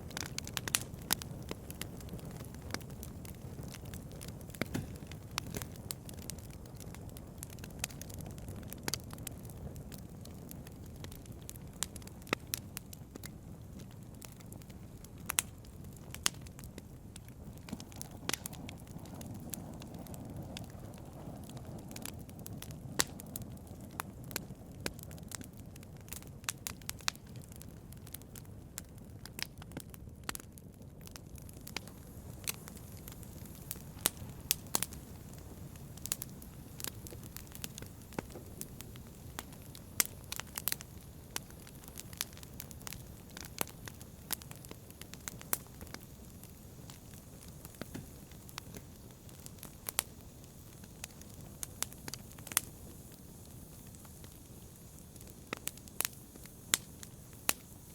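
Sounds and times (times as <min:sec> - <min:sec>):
fire crackles and pops: 0:00.0 - 0:57.9
low rumble of flames: 0:00.0 - 0:57.9.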